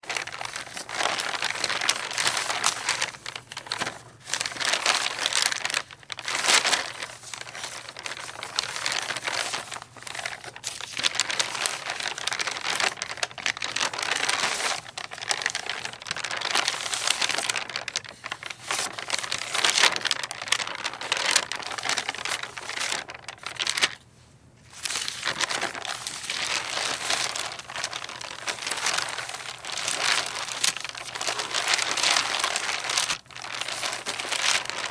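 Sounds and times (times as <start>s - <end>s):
paper rustling in the wind: 0.0s - 34.9s.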